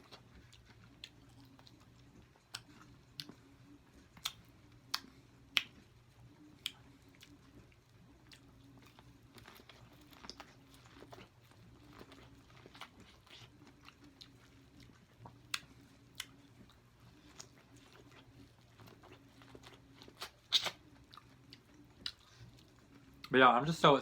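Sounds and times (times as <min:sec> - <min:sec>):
chewing and mouth smacks: 0:00.0 - 0:23.4.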